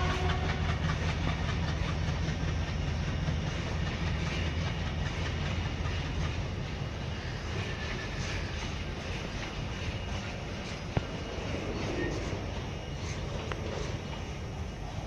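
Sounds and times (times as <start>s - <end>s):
diesel locomotive engine rumbling: 0.0s - 15.0s
rail noise from rolling wagons: 0.0s - 15.0s.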